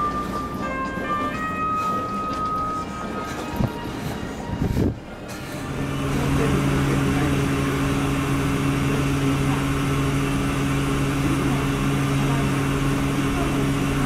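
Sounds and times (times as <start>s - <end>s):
ferry engine drone: 0.0s - 14.0s.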